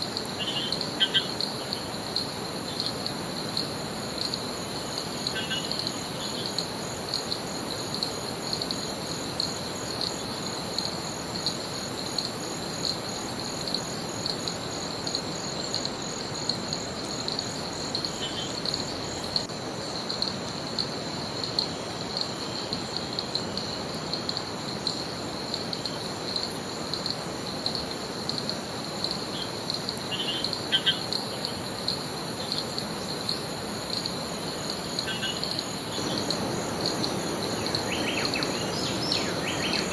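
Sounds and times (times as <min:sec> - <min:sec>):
background hiss: 0:00.0 - 0:39.9
insect chorus buzzing: 0:00.0 - 0:39.9.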